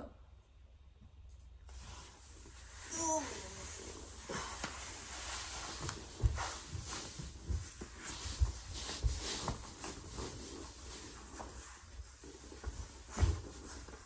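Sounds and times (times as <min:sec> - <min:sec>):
fabric rustling: 0:01.7 - 0:14.0.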